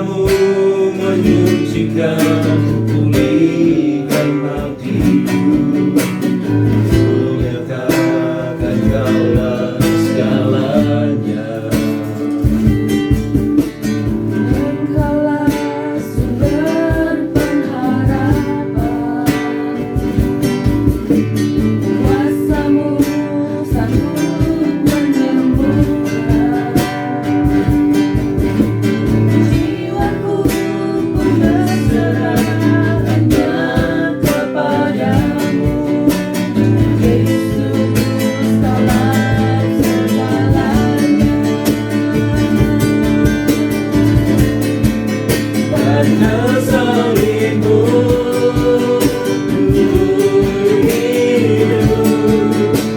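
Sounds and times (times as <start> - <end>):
acoustic guitar strumming: 0.0 - 52.9
person singing: 0.0 - 52.9.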